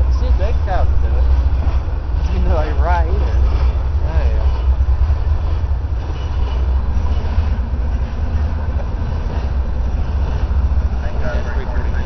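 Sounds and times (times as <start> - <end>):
diesel freight train rumbling past: 0.0 - 12.0.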